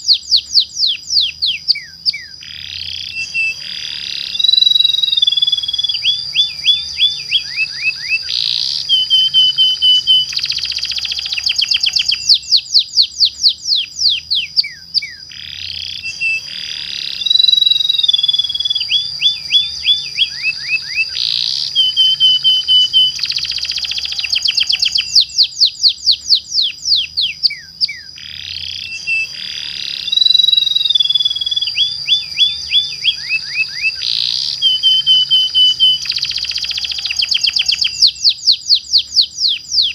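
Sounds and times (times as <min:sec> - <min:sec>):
canary singing: 0:00.0 - 0:39.9
thin steady high tone: 0:02.8 - 0:26.4, 0:28.1 - 0:39.4.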